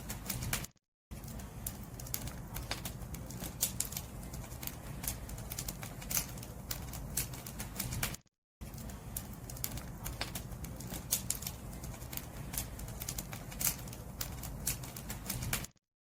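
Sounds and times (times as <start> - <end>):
firewood crackling and popping: 0.0 - 15.8.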